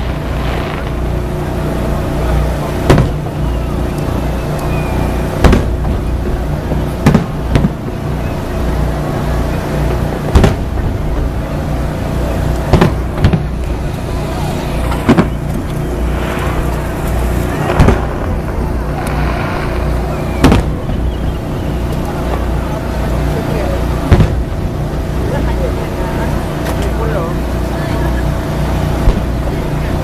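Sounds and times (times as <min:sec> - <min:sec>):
fireworks booming: 0:00.0 - 0:27.0, 0:28.9 - 0:29.8
low engine-like hum: 0:00.0 - 0:30.0.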